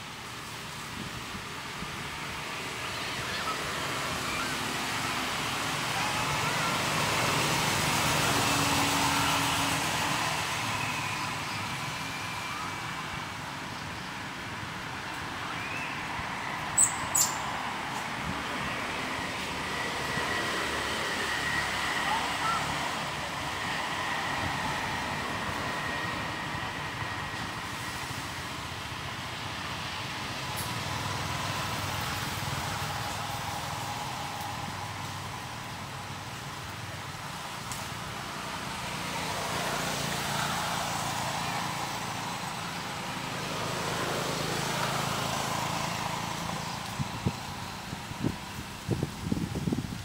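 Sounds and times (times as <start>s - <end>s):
distant road traffic: 0.0s - 50.0s
rushing outdoor background noise: 0.0s - 50.0s.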